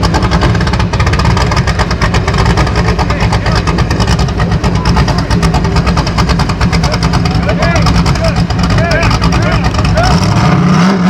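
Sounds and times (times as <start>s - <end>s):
buggy engine running loud: 0.0s - 11.0s.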